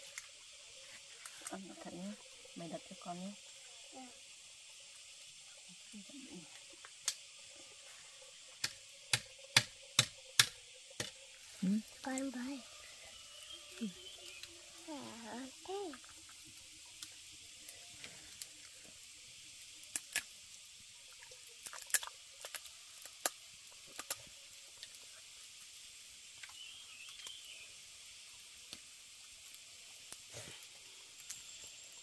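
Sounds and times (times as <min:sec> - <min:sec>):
steady high hiss: 0:00.0 - 0:32.0.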